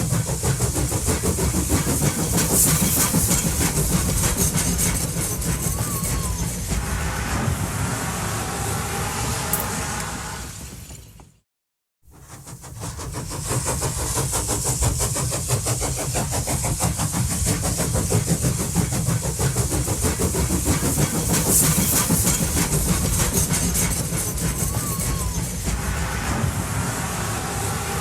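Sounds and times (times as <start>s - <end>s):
train running at speed: 0.0s - 11.4s, 12.0s - 28.0s.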